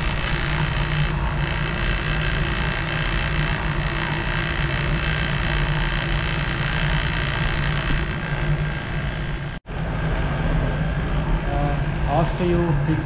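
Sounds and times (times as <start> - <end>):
machinery humming and hissing: 0.0 - 13.0.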